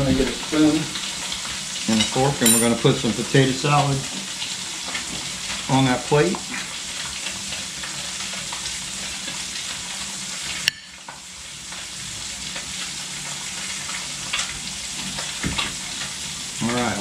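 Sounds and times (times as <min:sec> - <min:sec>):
fish sizzling in a pan: 0:00.1 - 0:17.0.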